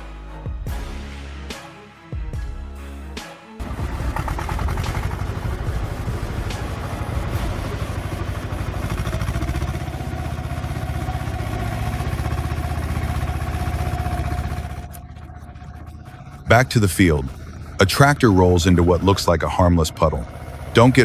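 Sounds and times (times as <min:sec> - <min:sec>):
heavy machine engine rumbling: 0:03.6 - 0:21.0
steady whine: 0:03.6 - 0:21.0.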